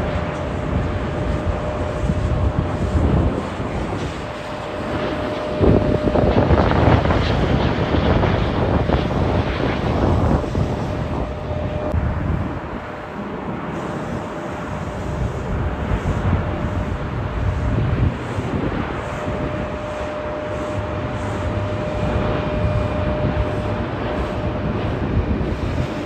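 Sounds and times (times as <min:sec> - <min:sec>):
jet engines rumbling: 0:00.0 - 0:26.0
wind buffeting microphone: 0:00.0 - 0:26.0.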